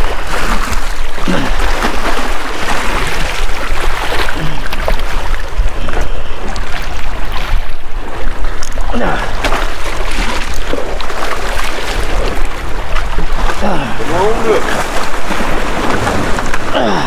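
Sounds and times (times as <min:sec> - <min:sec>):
surf splashing over rocks: 0:00.0 - 0:17.0.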